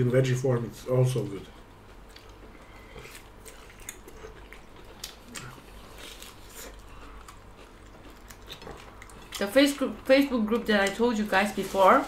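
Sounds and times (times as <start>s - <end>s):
people chewing: 1.4s - 12.0s.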